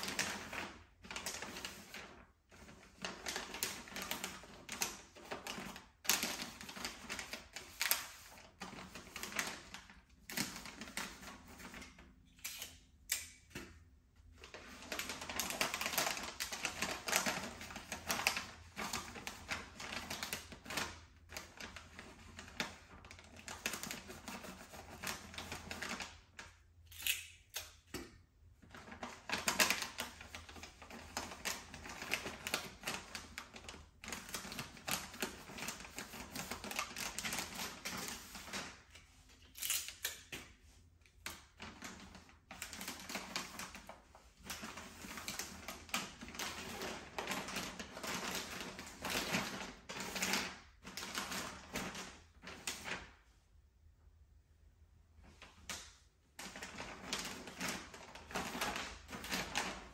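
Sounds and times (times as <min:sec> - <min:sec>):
wrapping paper crackling and rustling: 0:00.0 - 0:12.9, 0:14.2 - 0:26.8, 0:28.5 - 0:53.3, 0:55.2 - 0:59.9.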